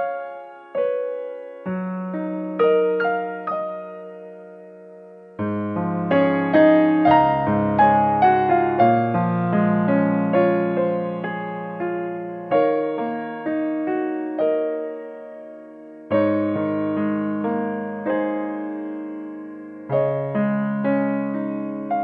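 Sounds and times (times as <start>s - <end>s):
piano chords and notes: 0.0s - 22.0s.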